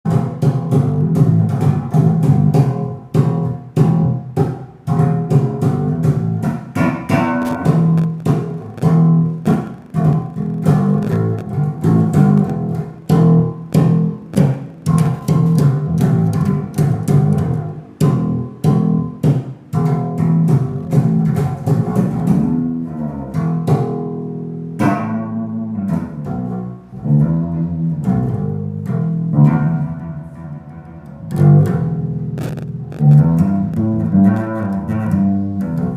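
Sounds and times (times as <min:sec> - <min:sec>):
bass guitar plucked notes: 0:00.0 - 0:35.9.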